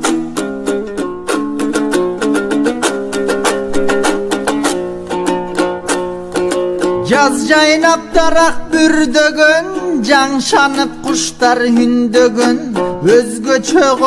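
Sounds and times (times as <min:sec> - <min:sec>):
plucked lute playing: 0:00.0 - 0:14.0.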